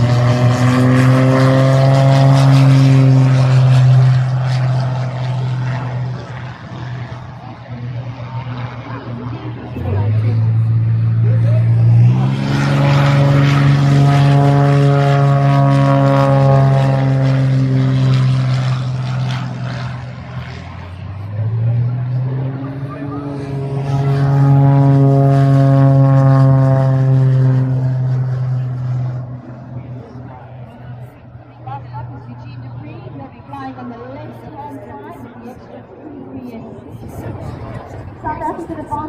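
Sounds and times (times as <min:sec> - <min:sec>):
propeller aircraft droning: 0:00.0 - 0:39.0.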